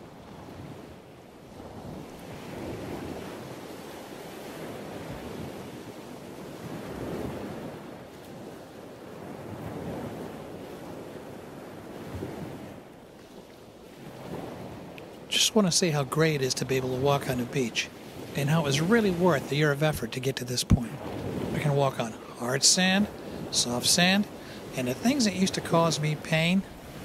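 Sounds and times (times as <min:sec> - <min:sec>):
wind buffeting microphone: 0:00.0 - 0:15.4, 0:16.8 - 0:27.0
ocean surf on beach: 0:00.0 - 0:27.0.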